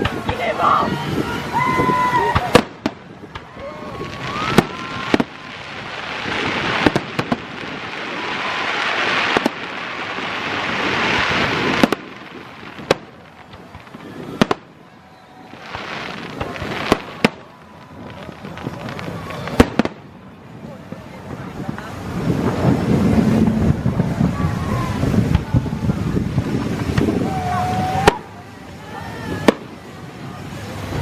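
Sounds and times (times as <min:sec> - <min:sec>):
fireworks bangs: 0:00.0 - 0:31.0
rushing noise: 0:00.0 - 0:31.0.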